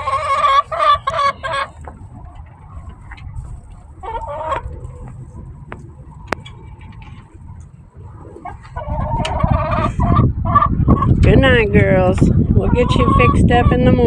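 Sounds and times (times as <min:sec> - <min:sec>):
gusting wind rumble: 0:00.0 - 0:14.0
hens clucking: 0:00.0 - 0:14.0.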